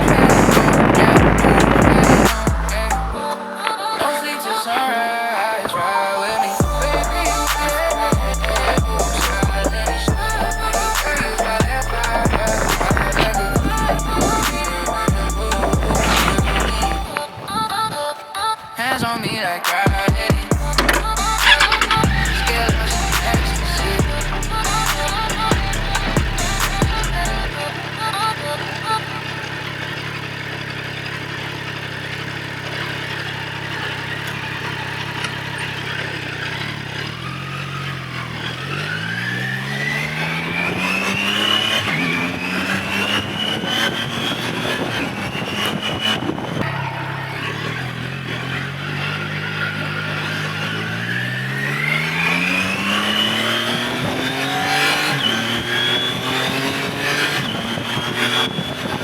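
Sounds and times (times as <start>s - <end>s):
motorcycle engine accelerating: 0.0s - 3.2s, 6.6s - 17.2s, 20.5s - 59.0s.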